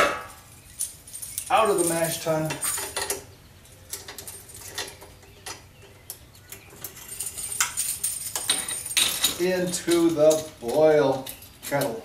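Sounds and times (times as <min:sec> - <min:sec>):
metallic clicks and clinks: 0:00.6 - 0:12.0.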